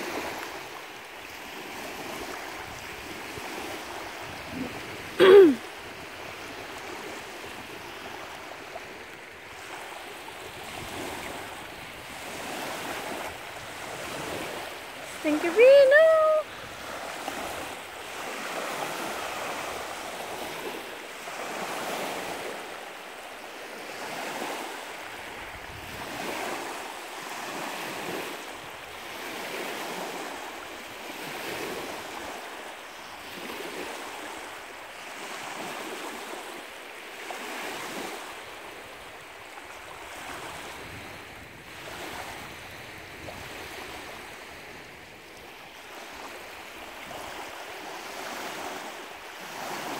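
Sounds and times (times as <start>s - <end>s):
lake waves washing against shore: 0.0s - 49.9s.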